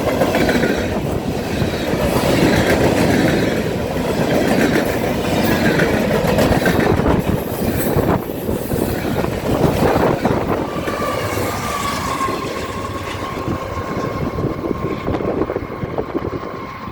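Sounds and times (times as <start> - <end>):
train wheels clattering over rail: 0.0 - 16.7.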